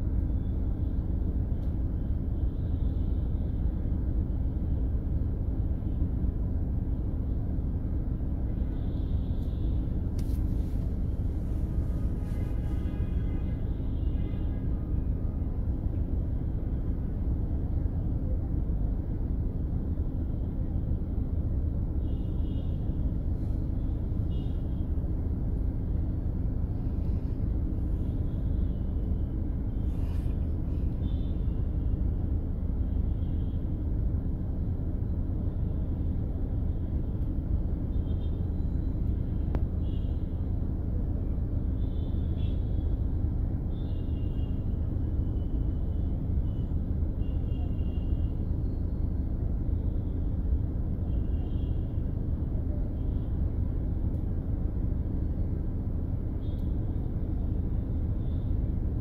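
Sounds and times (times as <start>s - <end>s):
road vehicle rumbling: 0.0s - 59.0s.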